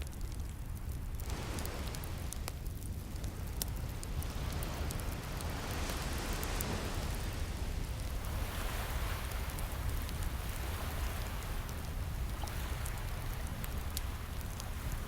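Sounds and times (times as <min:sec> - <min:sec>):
fire crackling: 0:00.0 - 0:15.0
low surf rumble: 0:00.0 - 0:15.0
ocean waves washing in: 0:01.2 - 0:15.0.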